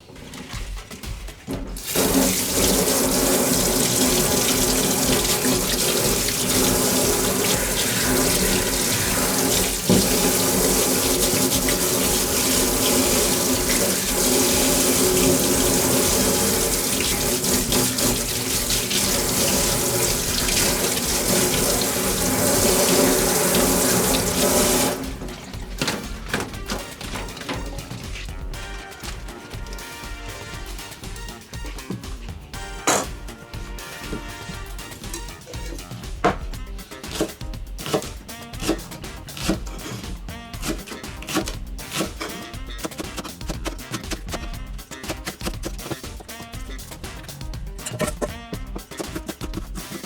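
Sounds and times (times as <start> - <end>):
tap water running into sink: 0.0 - 50.0.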